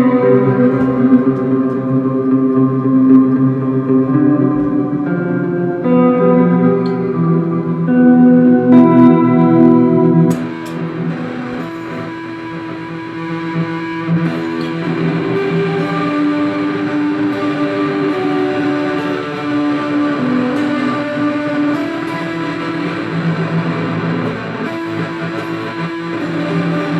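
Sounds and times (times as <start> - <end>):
overdriven electric guitar with reverb: 0.0 - 26.9.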